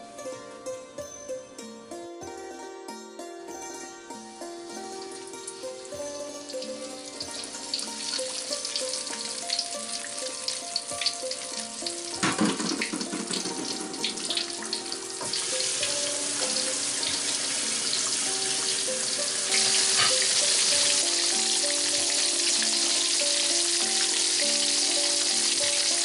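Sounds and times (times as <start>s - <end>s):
soft background music: 0.0s - 26.0s
fish deep-frying in hot oil: 5.1s - 26.0s.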